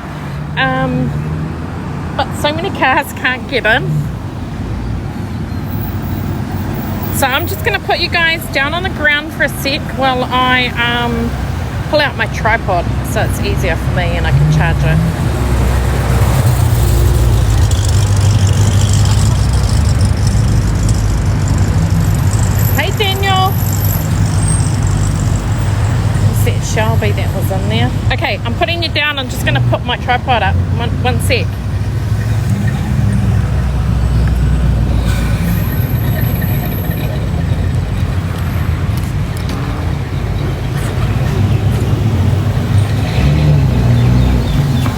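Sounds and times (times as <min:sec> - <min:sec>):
car engines rumbling: 0:00.0 - 0:44.9.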